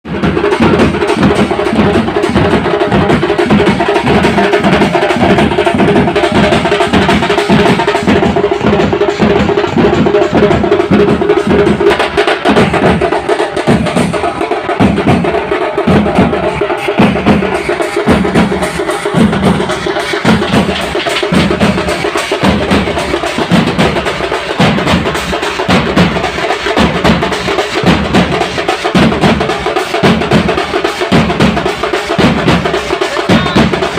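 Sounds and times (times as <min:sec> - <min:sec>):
drums in driving rhythm: 0:00.0 - 0:33.9.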